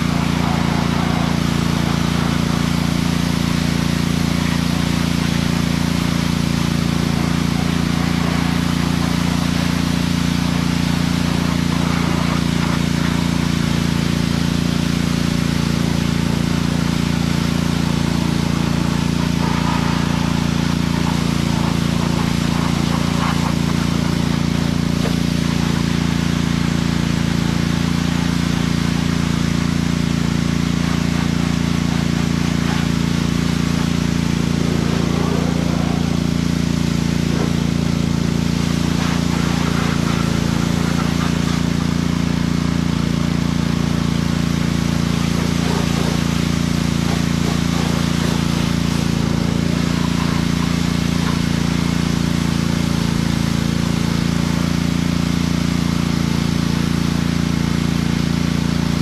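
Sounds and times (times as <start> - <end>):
pressure washer motor hum: 0.0 - 59.0
water jet hissing: 0.0 - 59.0.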